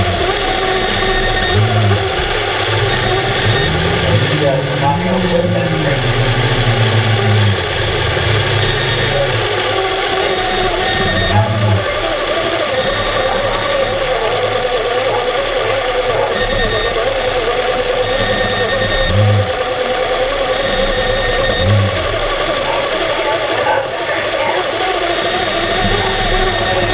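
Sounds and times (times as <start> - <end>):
underwater mechanical hum: 0.0 - 26.9.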